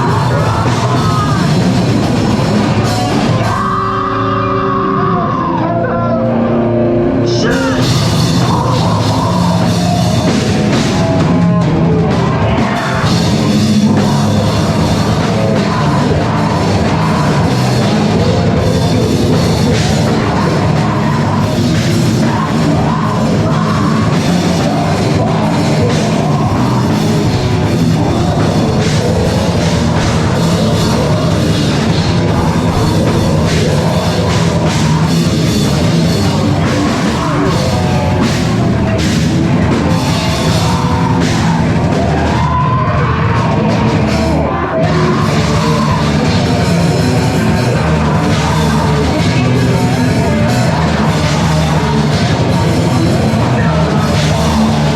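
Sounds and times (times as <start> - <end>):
drum kit: 0.0 - 6.1, 7.0 - 54.9
heavy guitars: 0.0 - 54.9.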